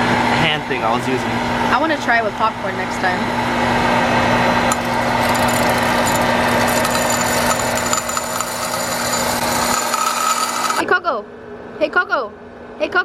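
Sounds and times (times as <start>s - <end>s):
popcorn popper fan humming: 0.0s - 11.0s.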